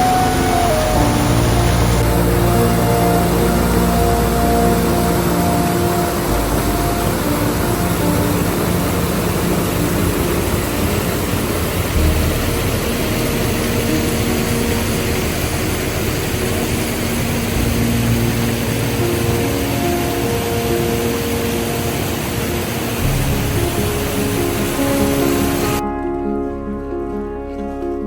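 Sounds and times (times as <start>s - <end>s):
waterfall roaring: 0.0s - 25.8s.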